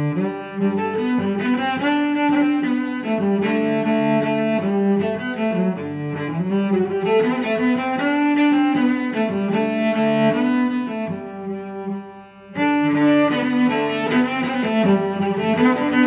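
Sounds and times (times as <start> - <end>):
bowed strings background music: 0.0 - 16.0.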